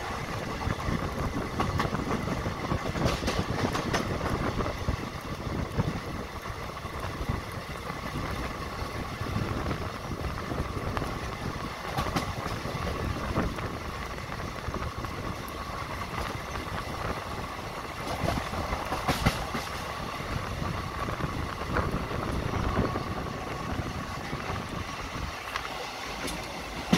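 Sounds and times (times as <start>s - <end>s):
train wheels rumbling on rail: 0.0s - 26.9s
wheels clicking over rail joints: 0.0s - 26.9s.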